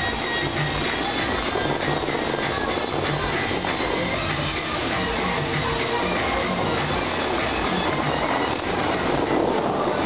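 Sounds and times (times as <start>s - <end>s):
faint music: 0.0s - 10.0s
fountain water jets rushing: 0.0s - 10.0s.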